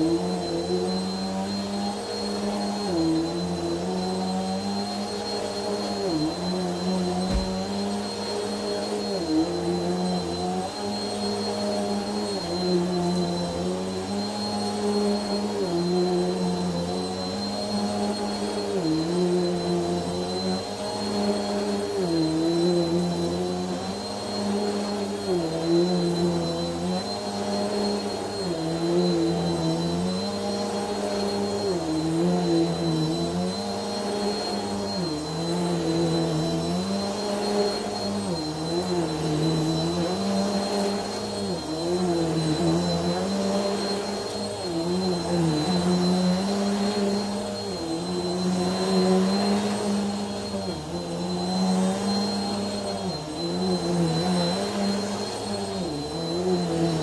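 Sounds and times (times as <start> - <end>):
vacuum cleaner on carpet: 0.0 - 57.0.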